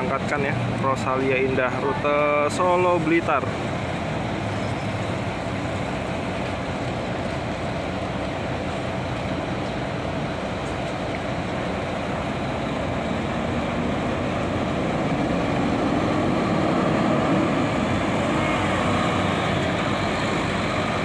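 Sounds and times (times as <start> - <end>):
diesel coach engine driving past: 0.0 - 21.0.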